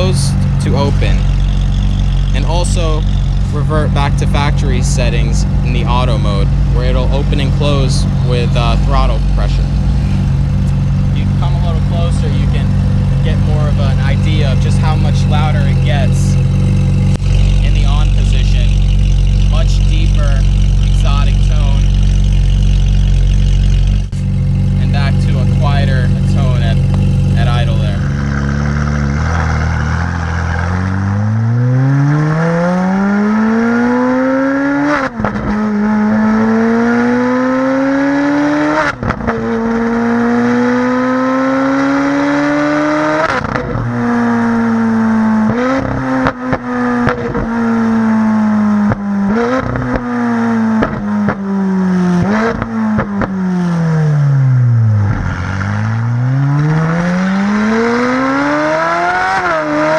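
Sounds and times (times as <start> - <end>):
exhaust cracks: 0.0 - 59.9
sports car engine accelerating: 0.0 - 59.9.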